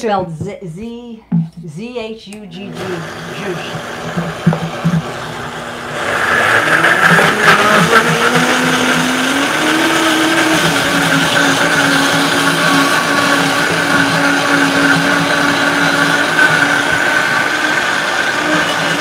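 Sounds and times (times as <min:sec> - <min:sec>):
blender running: 0:02.6 - 0:19.0.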